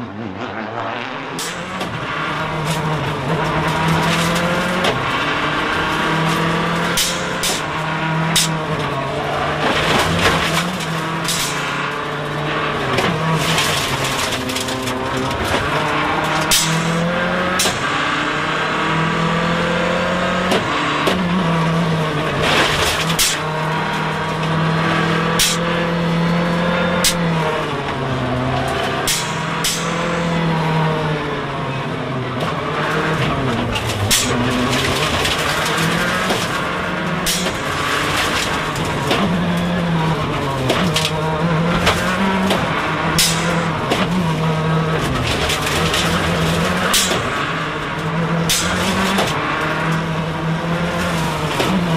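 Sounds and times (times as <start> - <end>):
rally car engine revving: 0.0 - 51.9
exhaust cracks: 0.3 - 19.3, 20.4 - 51.9.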